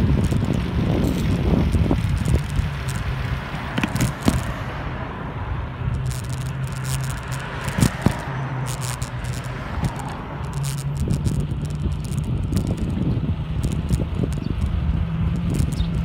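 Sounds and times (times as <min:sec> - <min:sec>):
bike clicks and rattles: 0:00.0 - 0:04.6, 0:05.9 - 0:16.0
bicycle rolling over pavement: 0:00.0 - 0:05.0, 0:05.8 - 0:16.0
wind rumble on microphone: 0:00.0 - 0:16.0.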